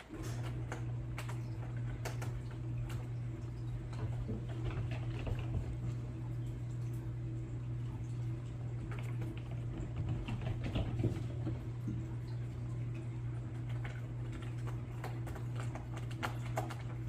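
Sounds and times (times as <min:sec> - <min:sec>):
kitten chewing wetly: 0:00.0 - 0:17.0
low hum: 0:00.0 - 0:17.0.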